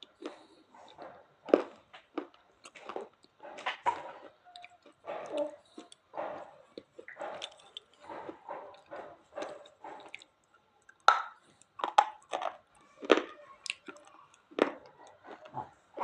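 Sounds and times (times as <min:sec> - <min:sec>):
soft chewing: 0:00.0 - 0:16.0.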